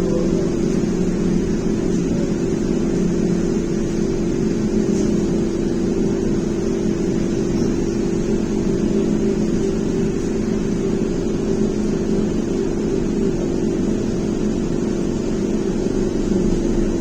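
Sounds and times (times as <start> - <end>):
low running rumble: 0.0 - 17.0
two-tone electric hum: 0.0 - 17.0.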